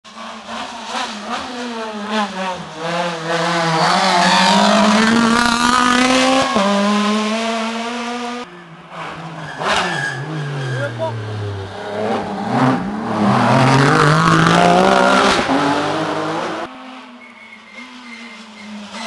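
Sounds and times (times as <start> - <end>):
rally car engine revving: 0.1 - 19.0.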